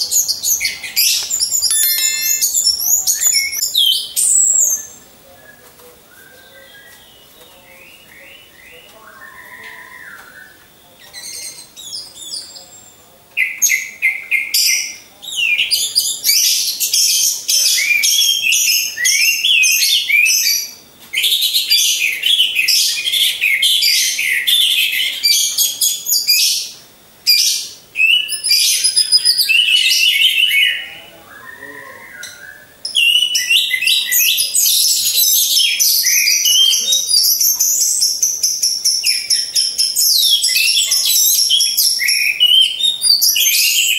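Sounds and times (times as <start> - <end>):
fainter lower bird call: 0.0 - 43.9.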